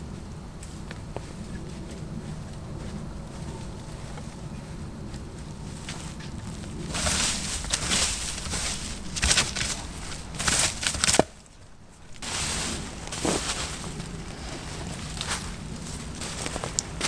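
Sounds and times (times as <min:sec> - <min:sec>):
branches rustling and knocking: 0:00.6 - 0:17.0.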